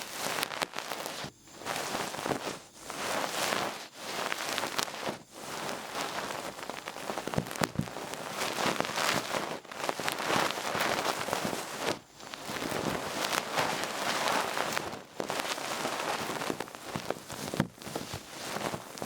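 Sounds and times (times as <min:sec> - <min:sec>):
ear pick rustling in ear: 0:00.0 - 0:19.0.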